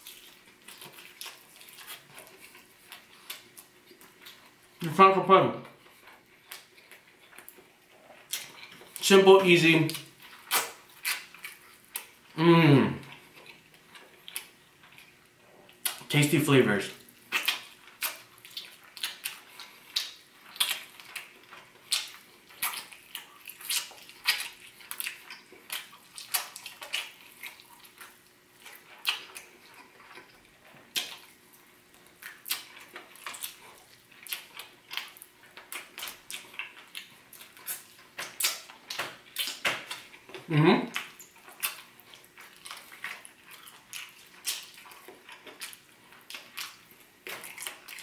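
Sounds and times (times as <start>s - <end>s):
person chewing and lip-smacking: 0.0s - 5.0s, 5.6s - 16.2s, 17.0s - 48.0s.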